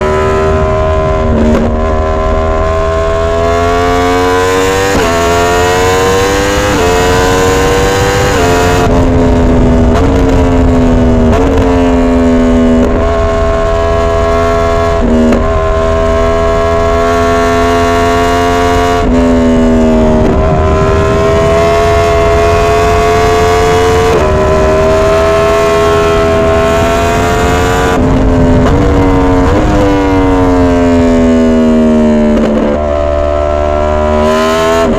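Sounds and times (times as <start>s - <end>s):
motorcycle engine revving through gears: 0.0s - 34.9s.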